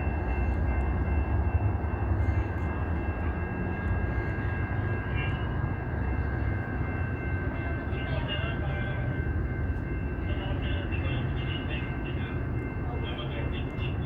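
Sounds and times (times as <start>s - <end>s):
passenger train rumbling past: 0.0s - 14.0s.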